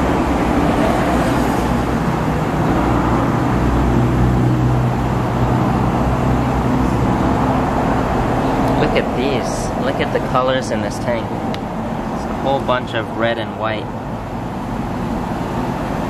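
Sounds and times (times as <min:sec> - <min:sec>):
broad rumbling noise: 0:00.0 - 0:16.0.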